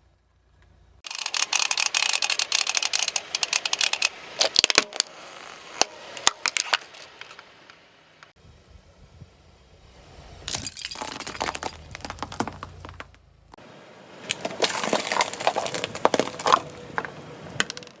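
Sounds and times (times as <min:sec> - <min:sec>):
objects cracking under car tyre: 0:00.5 - 0:08.4, 0:10.5 - 0:13.5, 0:14.2 - 0:18.0.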